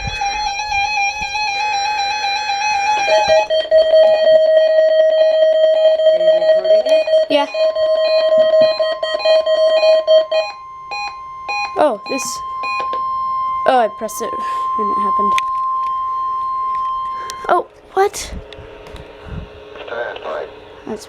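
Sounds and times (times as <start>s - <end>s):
buzzy synthesized notes: 0.0s - 21.0s.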